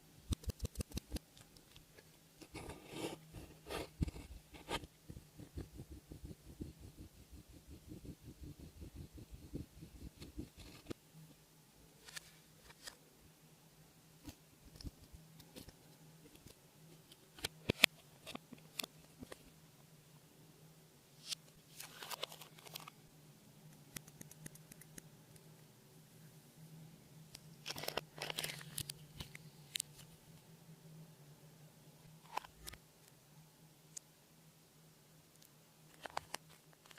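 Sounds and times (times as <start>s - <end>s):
faint low hum: 0.0s - 36.9s.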